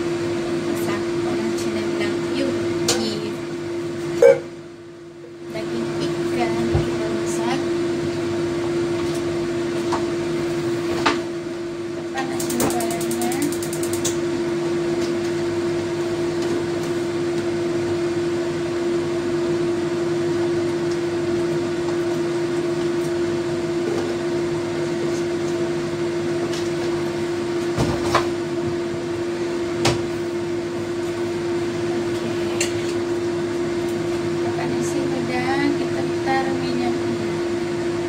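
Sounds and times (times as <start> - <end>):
kitchen fan humming: 0.0 - 38.0.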